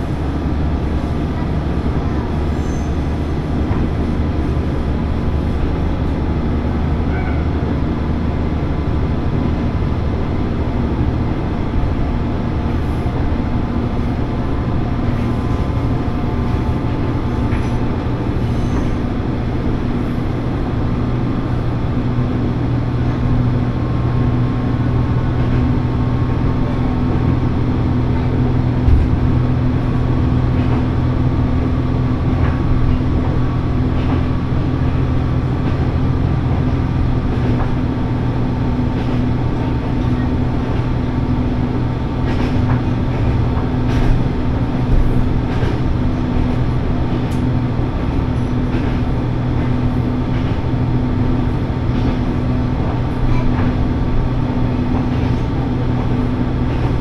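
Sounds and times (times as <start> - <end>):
diesel engine drone: 0.0 - 57.0
train wheels rumbling on rails: 0.0 - 57.0.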